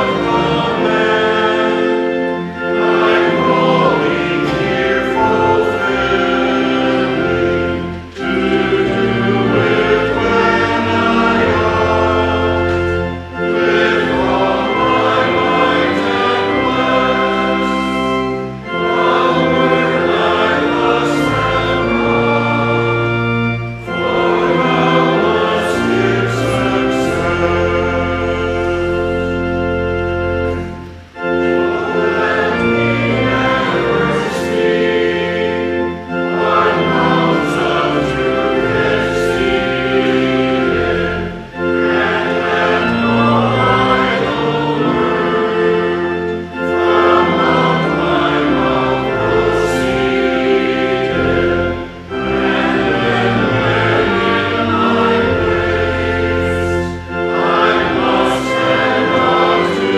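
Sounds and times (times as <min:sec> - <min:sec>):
congregation singing a hymn: 0:00.0 - 0:59.9
instrumental accompaniment: 0:00.0 - 0:59.9.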